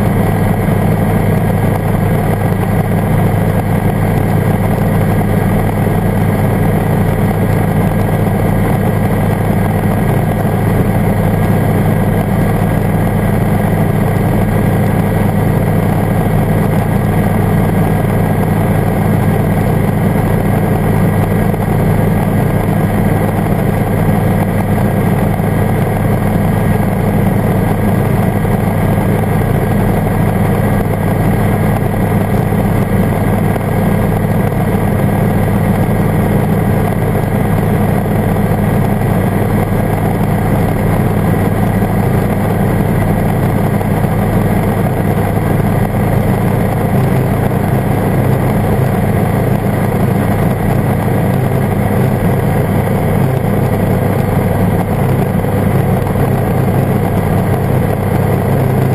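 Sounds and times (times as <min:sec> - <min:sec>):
ultralight engine and propeller: 0:00.0 - 0:58.9.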